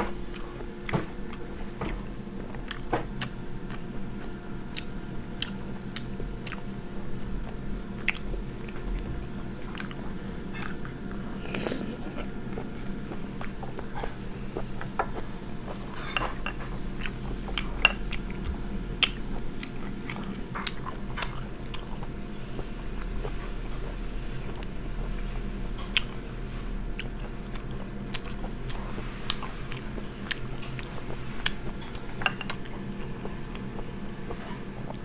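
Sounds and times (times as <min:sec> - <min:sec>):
wet chewing sounds: 0:00.3 - 0:35.0.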